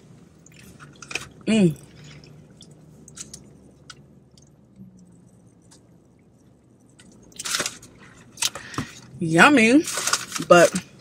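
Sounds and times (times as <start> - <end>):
faint low hum: 0.0 - 11.0
soft chewing: 0.2 - 9.1.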